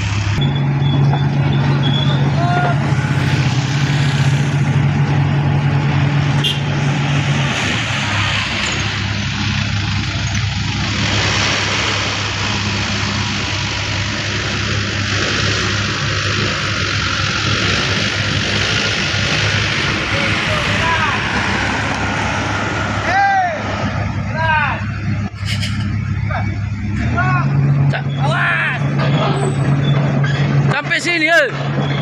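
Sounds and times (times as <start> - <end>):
steady wash of noise: 0.0 - 29.0
heavy diesel engine running: 0.0 - 32.0.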